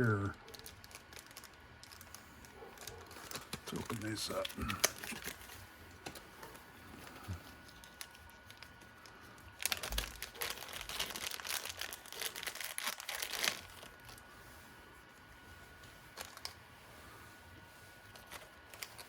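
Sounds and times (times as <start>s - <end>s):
plastic packaging crinkling: 0.0s - 14.3s, 15.1s - 16.6s, 17.9s - 19.0s.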